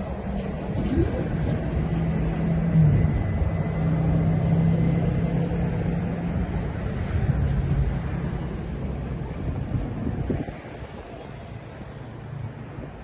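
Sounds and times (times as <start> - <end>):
train wheels rumbling on rails: 0.0 - 10.6.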